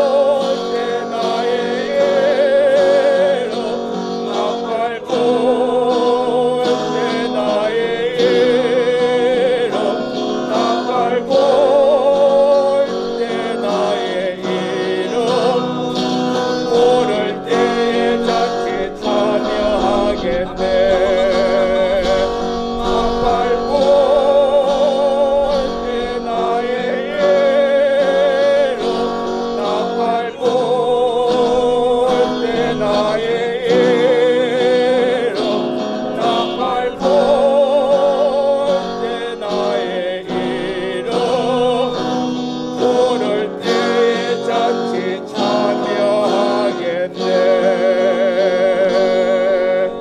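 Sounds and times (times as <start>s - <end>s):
group singing a hymn: 0.0s - 50.0s
instrumental accompaniment: 0.0s - 50.0s.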